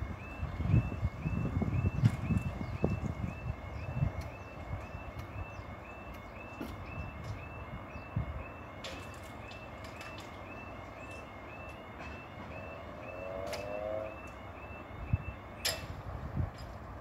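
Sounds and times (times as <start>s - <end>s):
low traffic rumble: 0.0s - 17.0s
electronic alarm chirping: 0.1s - 15.9s.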